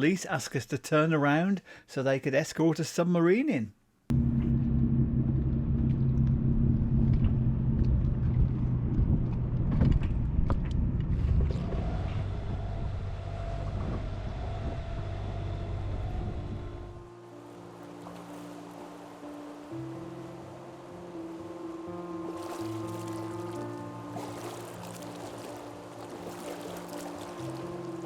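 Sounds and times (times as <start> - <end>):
boat engine humming: 4.1 - 28.0.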